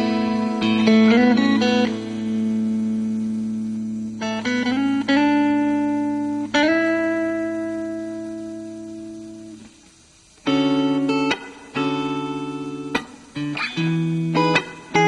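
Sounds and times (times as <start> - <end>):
clean electric guitar: 0.0 - 15.0.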